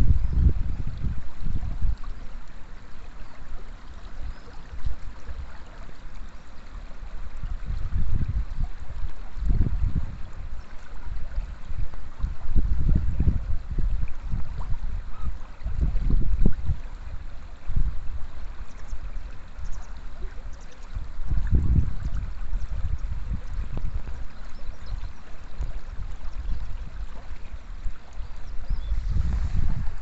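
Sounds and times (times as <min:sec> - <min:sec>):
water running over stony stream bed: 0:00.0 - 0:30.0
wind rumbling on microphone: 0:00.0 - 0:30.0.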